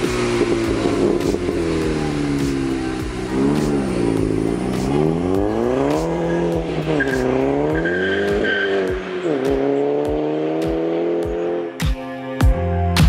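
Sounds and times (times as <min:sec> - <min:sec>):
turbocharged car engine accelerating: 0:00.0 - 0:11.8.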